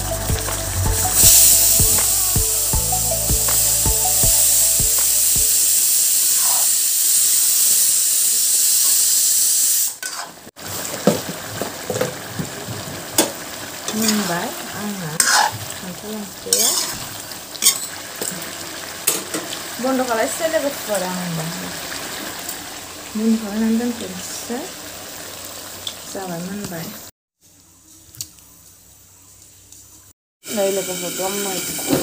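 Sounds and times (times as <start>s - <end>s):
curry sizzling in a pan: 0.0s - 28.0s, 28.6s - 32.0s.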